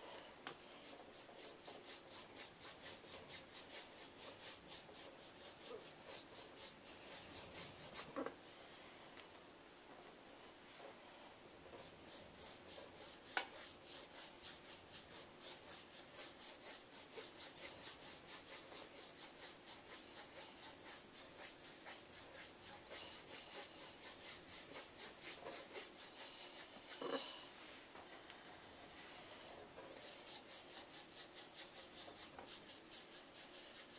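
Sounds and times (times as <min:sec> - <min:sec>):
paintbrush scrubbing on canvas: 0:00.0 - 0:08.3, 0:10.7 - 0:33.9.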